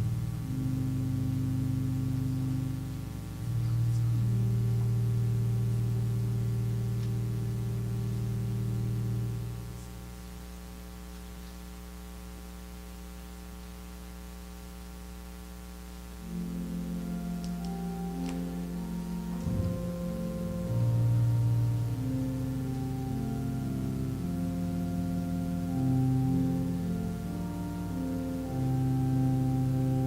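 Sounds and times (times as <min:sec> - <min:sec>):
keyboard sustained chords: 0:00.0 - 0:10.4, 0:15.7 - 0:30.0
electrical hum: 0:00.0 - 0:30.0.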